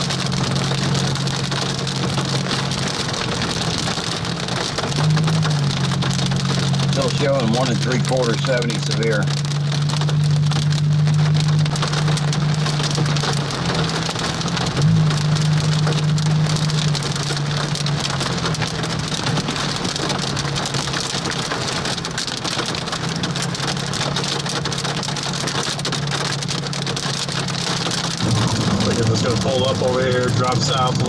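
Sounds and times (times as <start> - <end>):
car low hum: 0.0 - 31.0
hail pelting car roof: 0.0 - 31.0.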